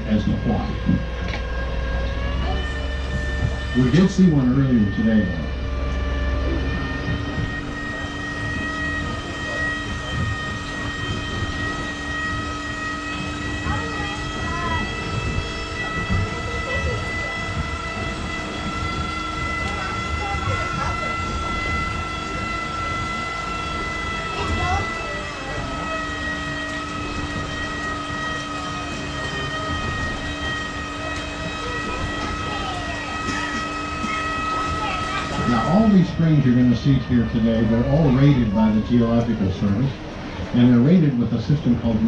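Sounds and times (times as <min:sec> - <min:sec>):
boat motor whining: 0:00.0 - 0:42.0.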